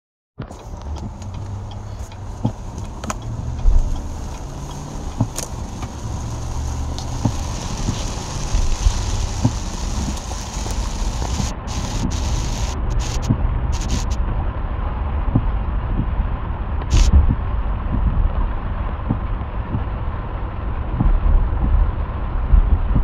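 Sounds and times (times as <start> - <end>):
windshield wipers sweeping: 0.4 - 14.5, 15.1 - 23.0
car low rumble: 0.4 - 23.0
heavy rain on car windshield: 0.4 - 23.0.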